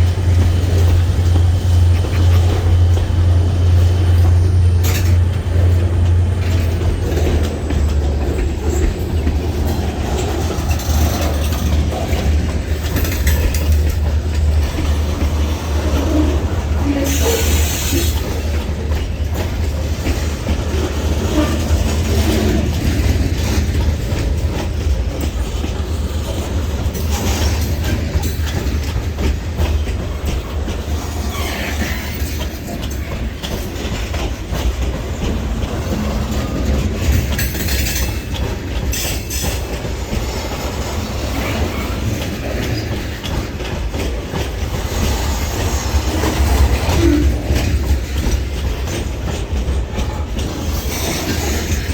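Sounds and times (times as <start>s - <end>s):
freight train rumbling past: 0.0s - 51.9s
wheels clicking over rail joints: 0.0s - 51.9s.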